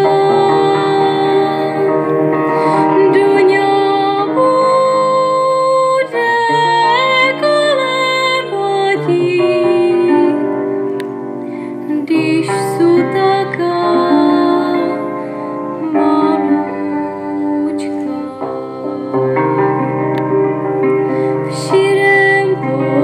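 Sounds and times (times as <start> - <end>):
woman singing folk song: 0.0 - 10.6, 11.7 - 20.2, 21.2 - 23.0
instrumental accompaniment: 0.0 - 23.0.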